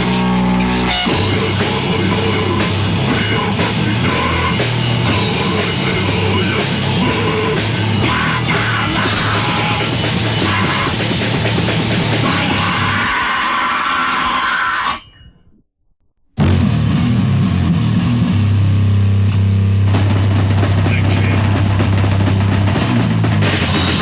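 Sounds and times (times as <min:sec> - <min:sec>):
driving drum beat: 0:00.0 - 0:13.6, 0:16.4 - 0:24.0
distorted electric guitars: 0:00.0 - 0:15.2, 0:16.4 - 0:24.0.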